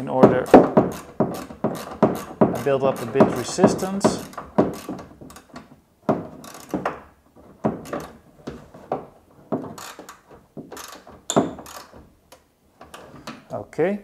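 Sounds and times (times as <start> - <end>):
foam rings knocking and clicking: 0.0 - 13.5.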